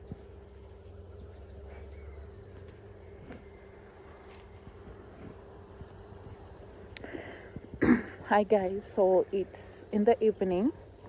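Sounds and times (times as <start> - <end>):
insects trilling: 0.0 - 11.0
steady low hum: 0.0 - 11.0.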